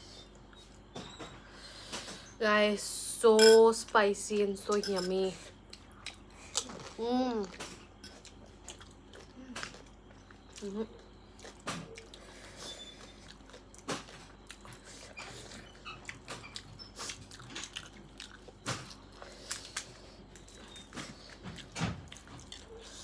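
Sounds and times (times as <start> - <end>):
chewing and crunching food: 3.8 - 23.0.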